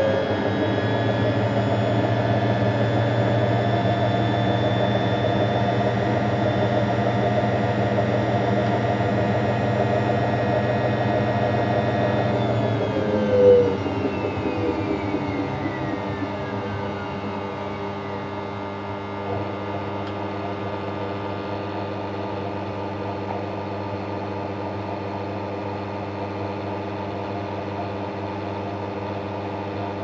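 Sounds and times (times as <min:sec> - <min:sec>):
washing machine motor whining: 0:00.0 - 0:30.0.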